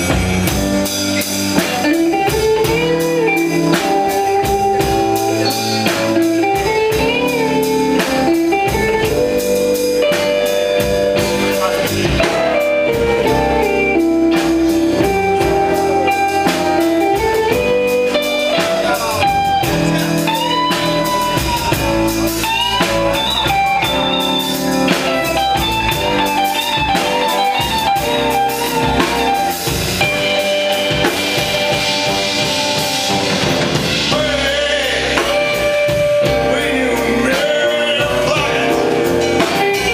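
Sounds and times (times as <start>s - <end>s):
bending lead guitar line: 0.0s - 39.9s
drum kit: 0.0s - 39.9s
electric guitars: 0.0s - 39.9s.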